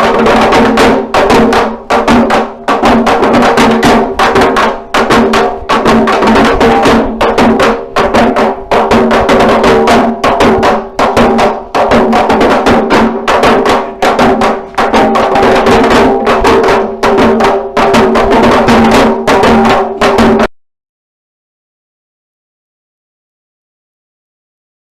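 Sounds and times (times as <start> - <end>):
frame drums beaten with sticks: 0.0 - 20.5.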